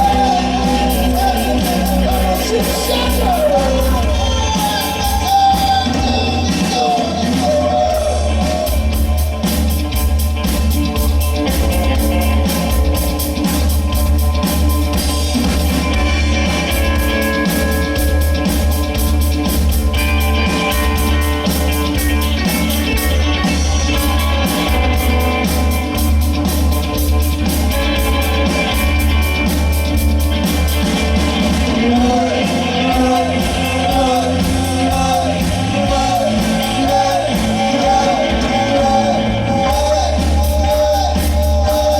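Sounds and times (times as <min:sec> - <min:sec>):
bass guitar: 0:00.0 - 0:41.9
drums: 0:00.0 - 0:41.9
lead guitar: 0:00.0 - 0:41.9.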